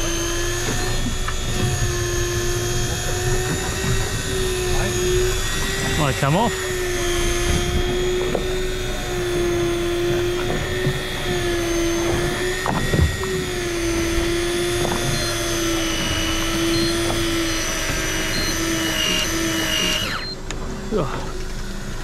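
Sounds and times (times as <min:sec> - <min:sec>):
fishing reel motor whining: 0:00.0 - 0:22.0.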